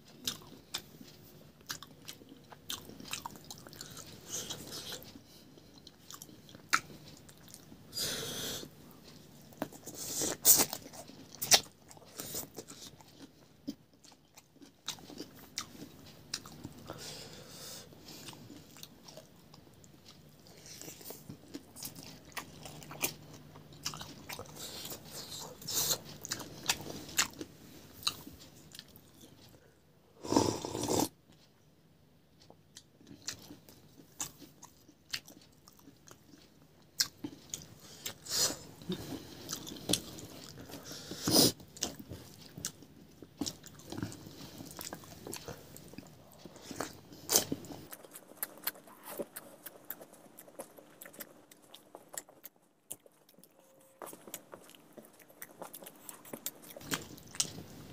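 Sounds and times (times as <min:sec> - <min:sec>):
person chewing food: 0:00.1 - 0:31.5, 0:32.4 - 0:57.9.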